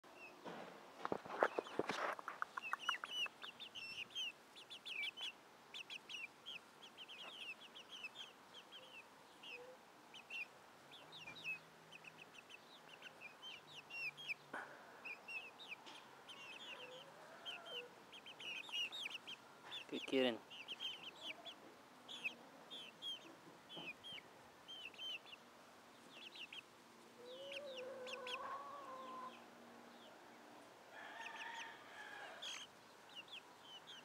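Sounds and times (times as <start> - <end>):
chicks peeping: 0.1 - 34.0.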